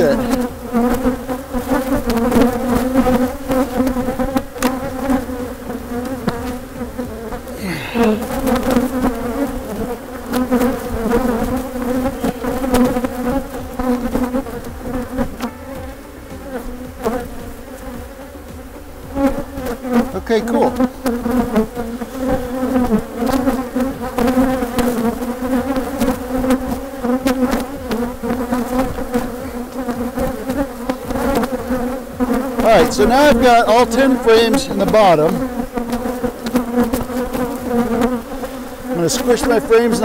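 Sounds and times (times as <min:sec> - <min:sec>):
honeybees buzzing: 0:00.0 - 0:40.0.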